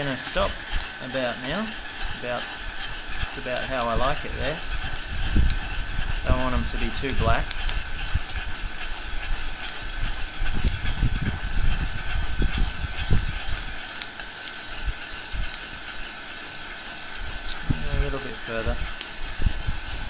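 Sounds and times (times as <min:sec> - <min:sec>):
coffee beans popping: 0:00.0 - 0:20.0
heat gun blowing with whine: 0:00.0 - 0:20.0
spoon stirring rattling beans: 0:00.0 - 0:20.0.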